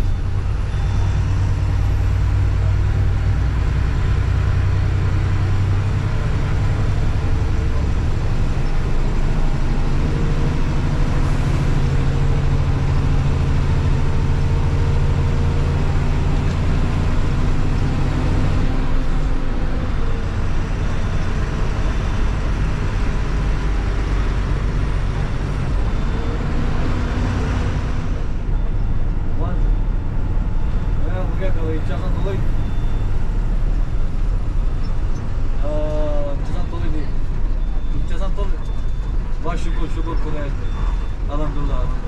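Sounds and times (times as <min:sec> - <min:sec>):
bus engine droning: 0:00.0 - 0:42.0
road and tyre noise: 0:00.0 - 0:42.0.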